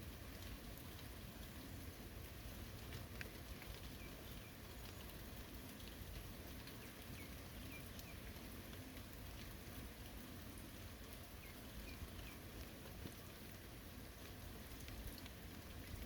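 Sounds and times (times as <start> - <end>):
steady rain with dripping drops: 0.0 - 16.0.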